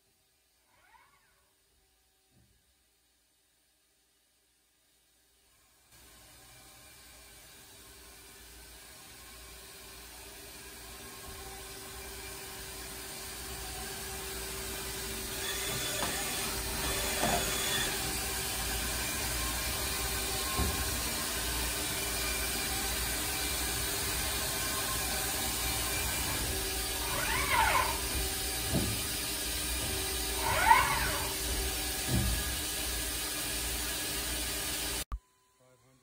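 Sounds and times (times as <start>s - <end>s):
lathe mechanical hum and hiss: 6.0s - 35.1s.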